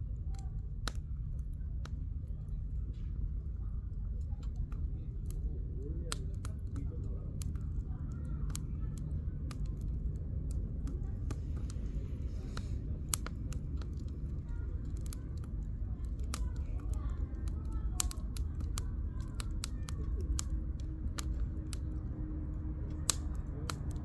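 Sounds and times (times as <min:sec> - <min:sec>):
campfire crackling and popping: 0:00.0 - 0:24.0
fire low rumble: 0:00.0 - 0:24.0.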